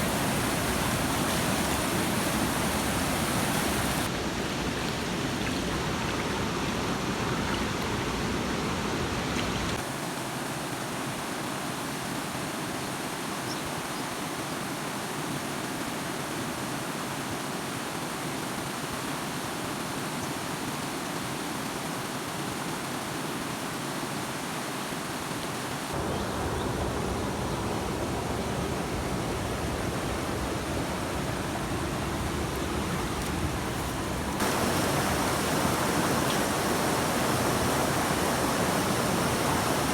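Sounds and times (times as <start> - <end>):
water rushing: 0.0 - 13.4, 14.1 - 39.9.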